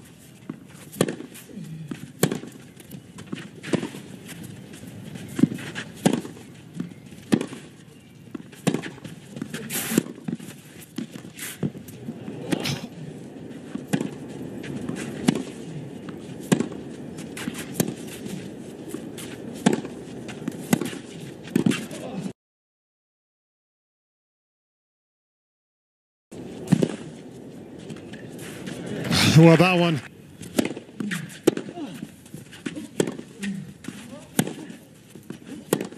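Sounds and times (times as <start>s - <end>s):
tennis balls struck by racquets: 0.2s - 22.2s, 26.6s - 35.9s.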